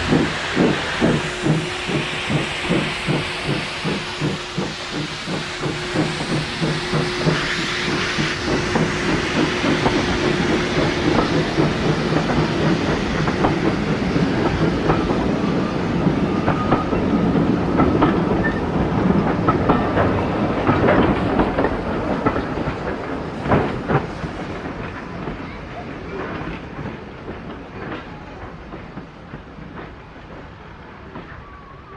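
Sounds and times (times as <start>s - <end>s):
train wheels clattering on rail joints: 0.0s - 31.5s.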